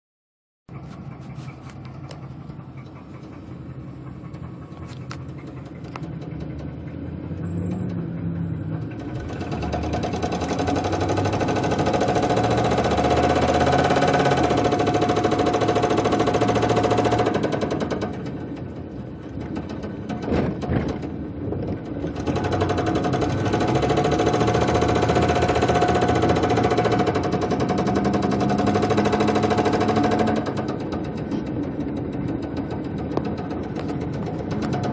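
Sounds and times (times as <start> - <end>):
car engine knocking: 0.7 - 34.9.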